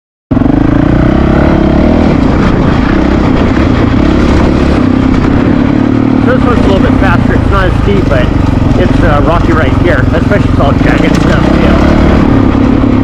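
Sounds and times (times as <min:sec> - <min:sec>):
motorcycle engine running: 0:00.3 - 0:13.0.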